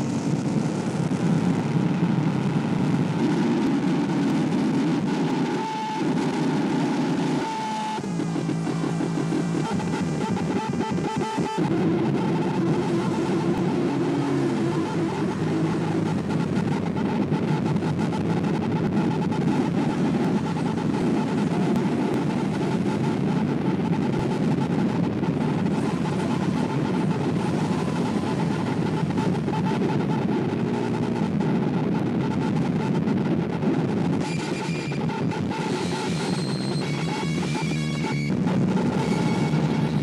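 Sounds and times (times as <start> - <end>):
distorted electronic noise: 0.0 - 40.0
held drone pitches: 0.0 - 40.0.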